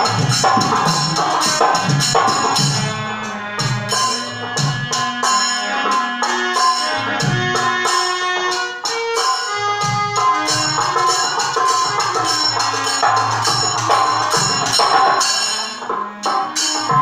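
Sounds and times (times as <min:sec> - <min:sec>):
steady percussion beat: 0:00.0 - 0:17.0.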